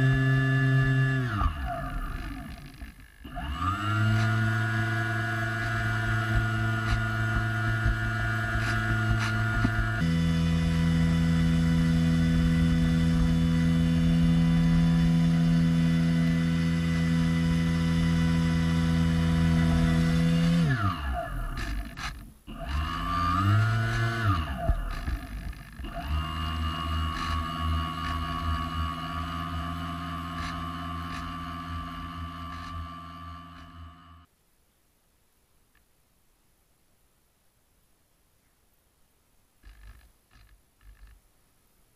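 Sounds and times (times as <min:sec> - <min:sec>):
model airboat motor and propeller: 0:00.0 - 0:34.3, 0:39.6 - 0:41.2.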